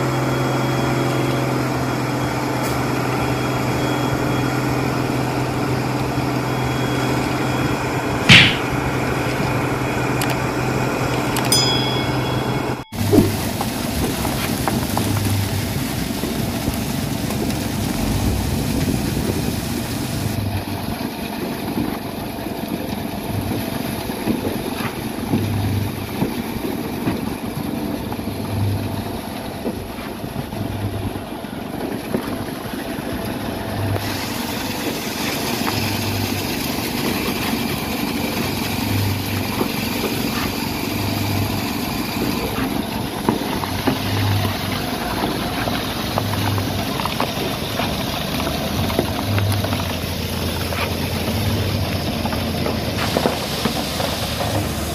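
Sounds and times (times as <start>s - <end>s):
concrete pump truck running: 0.0s - 54.9s.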